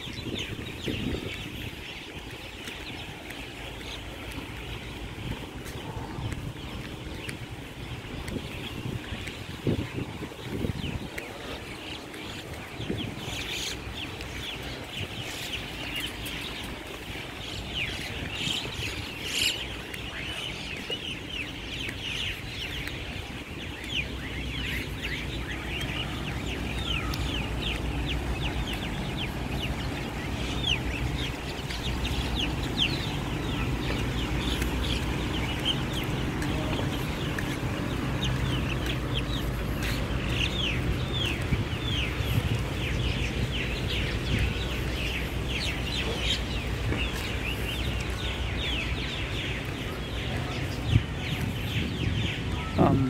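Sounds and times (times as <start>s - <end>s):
chorus of birds chirping: 0.0s - 53.0s.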